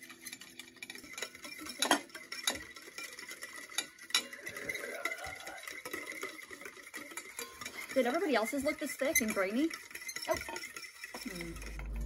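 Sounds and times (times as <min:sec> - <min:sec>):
spoons scraping metal bowls: 0:00.0 - 0:12.0.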